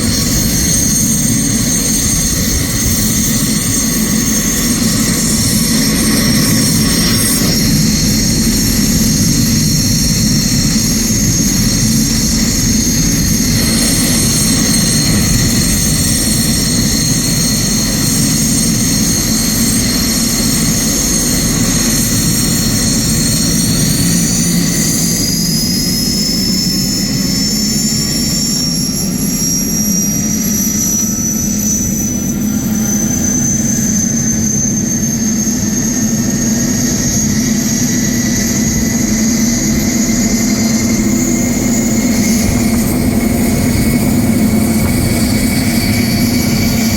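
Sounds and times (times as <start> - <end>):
high turbine whine: 0.0 - 46.9.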